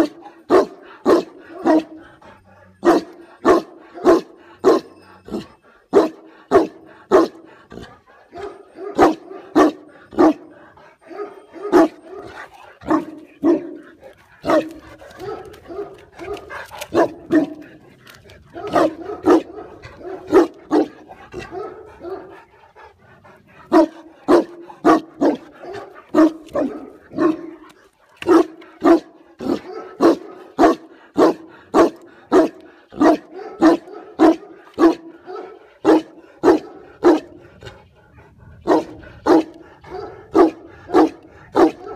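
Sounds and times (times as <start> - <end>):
dog barking: 0.0 - 2.0, 2.8 - 4.9, 5.9 - 7.5, 8.3 - 10.5, 11.1 - 17.7, 18.5 - 22.4, 23.7 - 27.6, 28.2 - 37.4, 38.6 - 41.9.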